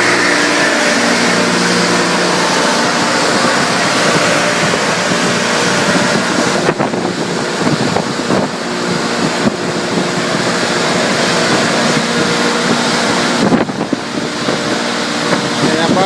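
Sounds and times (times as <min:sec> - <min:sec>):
constant machine hum: 0:00.0 - 0:16.0
grain milling machine running: 0:00.0 - 0:16.0.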